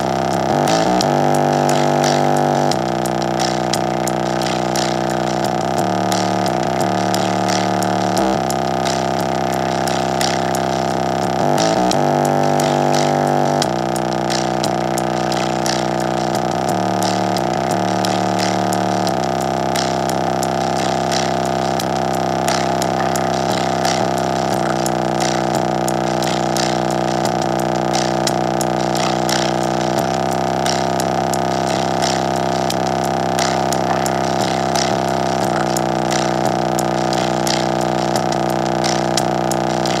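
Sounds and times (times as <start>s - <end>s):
buzzy bass line: 0.0s - 40.0s
ticking beat: 0.0s - 40.0s.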